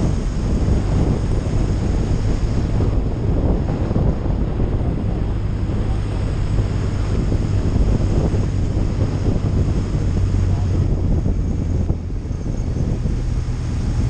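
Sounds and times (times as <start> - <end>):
motorcycle engine droning: 0.0 - 14.0
wind rushing over microphone: 0.0 - 14.0.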